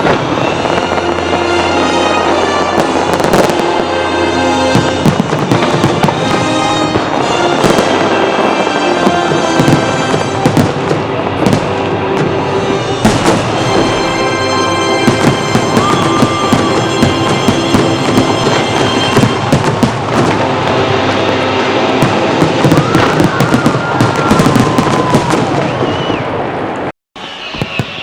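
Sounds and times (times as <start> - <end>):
music: 0.0 - 25.6
fireworks cracking and crackling: 0.0 - 28.0.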